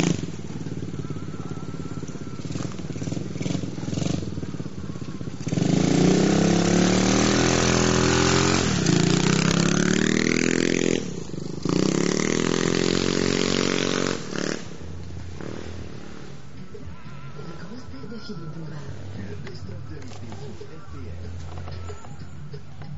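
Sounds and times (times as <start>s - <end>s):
motorbike engine accelerating: 0.0s - 22.9s.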